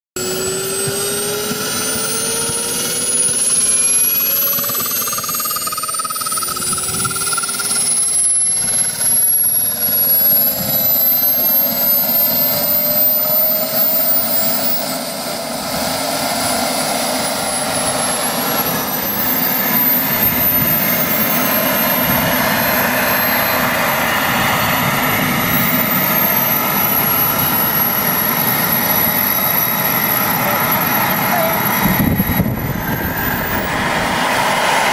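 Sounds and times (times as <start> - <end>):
model jet turbines whistling: 0.2 - 34.9.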